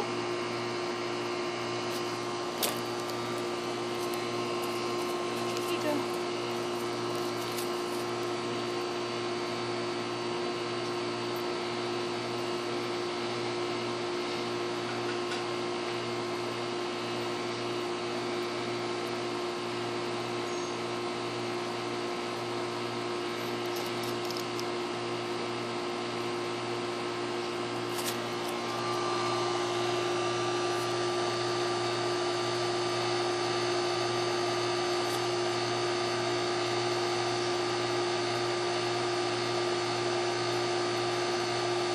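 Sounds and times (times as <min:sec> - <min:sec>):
mechanical hum with tones: 0:00.0 - 0:41.9.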